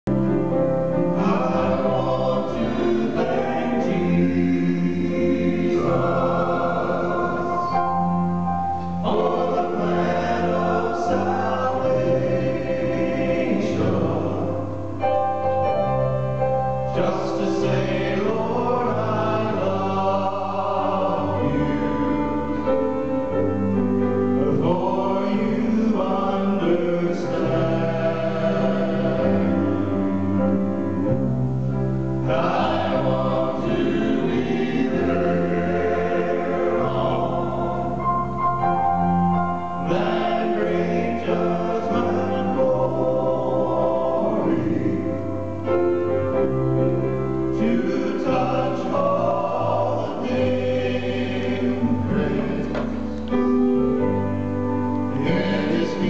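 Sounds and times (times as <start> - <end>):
keyboard: 0.0 - 56.0
men singing in harmony: 1.0 - 15.0, 16.8 - 23.5, 24.4 - 31.4, 32.2 - 45.9, 47.5 - 53.4, 55.1 - 56.0.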